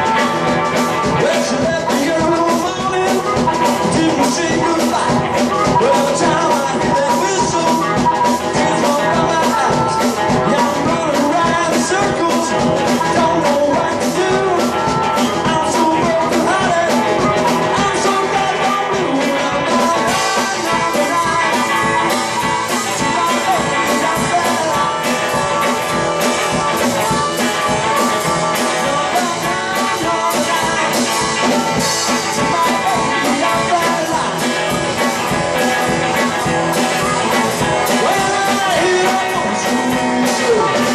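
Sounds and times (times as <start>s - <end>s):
drums keeping a steady beat: 0.0s - 40.9s
electric guitar: 0.0s - 40.9s
harmonica playing lead: 0.0s - 40.9s.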